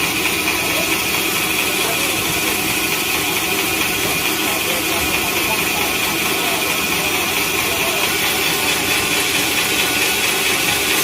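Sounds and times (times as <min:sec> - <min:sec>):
sawmill machinery running: 0:00.0 - 0:11.0.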